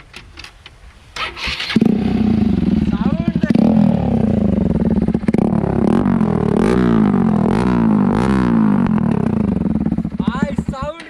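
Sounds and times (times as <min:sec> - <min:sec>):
motorcycle engine revving: 0:01.2 - 0:11.0.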